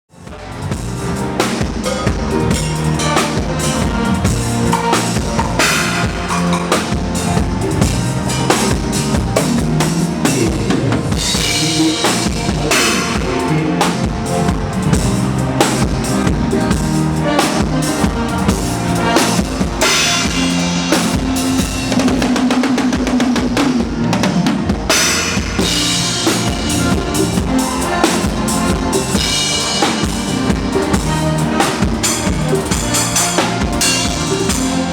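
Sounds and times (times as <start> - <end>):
drum kit groove: 0.1 - 34.9
pitched instruments playing: 0.2 - 34.9.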